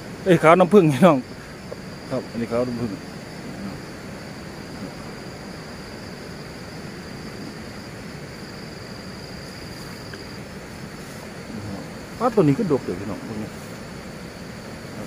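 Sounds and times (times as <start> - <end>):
even hiss: 0.0 - 15.0
high-pitched insect trill: 0.0 - 15.0.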